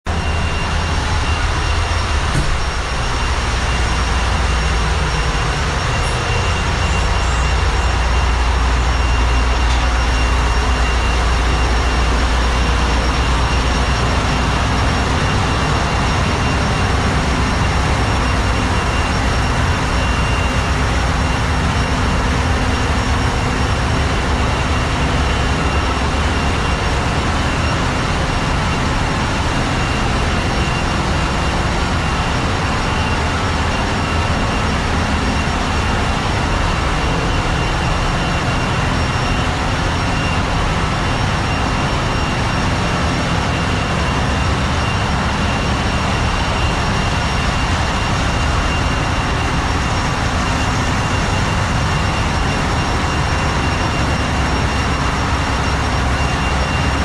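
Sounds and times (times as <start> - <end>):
engine room machinery din: 0.0 - 57.0
high machinery whines: 0.1 - 57.0.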